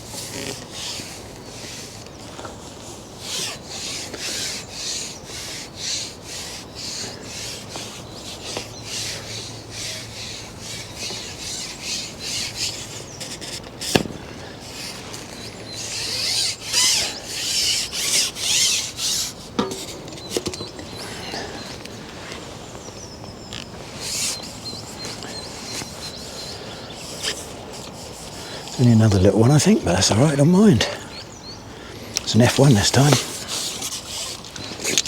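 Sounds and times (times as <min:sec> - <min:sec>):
fishing pole sliding rasp: 0:00.0 - 0:29.7, 0:32.2 - 0:35.0.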